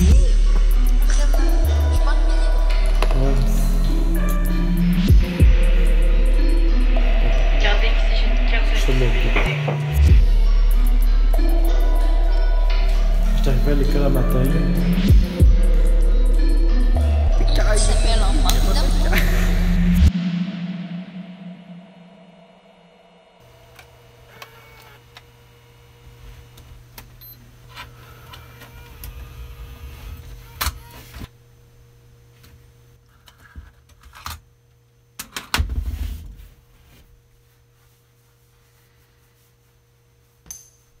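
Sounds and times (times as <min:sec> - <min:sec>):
steady low hum: 0:00.0 - 0:33.8.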